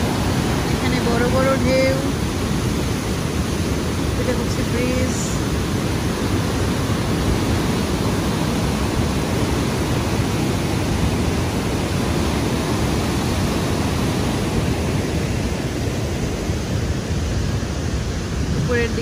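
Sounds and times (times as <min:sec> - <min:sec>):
whitewater rapids roaring: 0:00.0 - 0:19.0.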